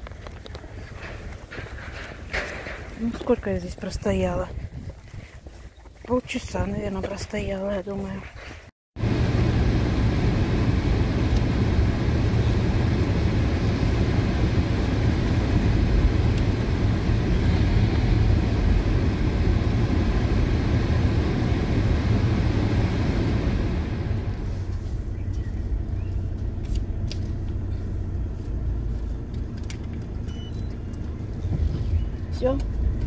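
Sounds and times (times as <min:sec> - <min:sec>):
car engine and tyre rumble: 0:00.0 - 0:03.0, 0:09.0 - 0:33.0.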